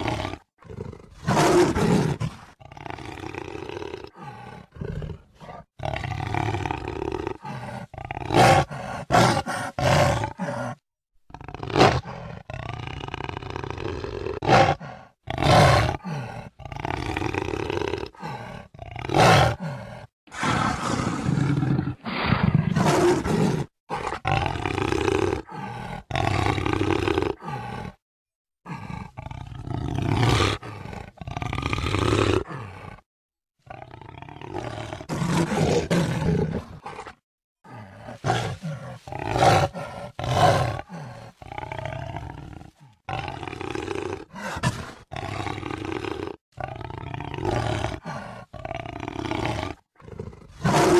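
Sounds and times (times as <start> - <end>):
jaguar roaring and growling: 0.0 - 28.0, 28.6 - 50.9.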